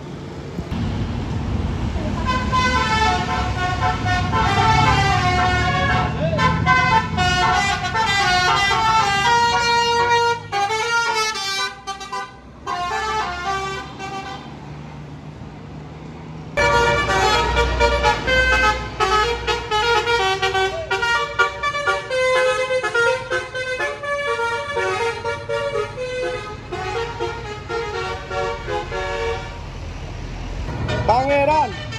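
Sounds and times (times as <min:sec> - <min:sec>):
low engine rumble: 0:00.0 - 0:31.9
multi-trumpet air horns playing tune: 0:02.2 - 0:14.5, 0:16.6 - 0:29.6, 0:30.9 - 0:31.9.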